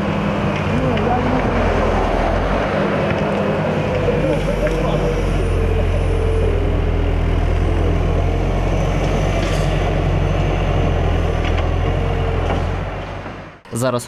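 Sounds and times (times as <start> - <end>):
excavator diesel engine running: 0.0 - 13.6.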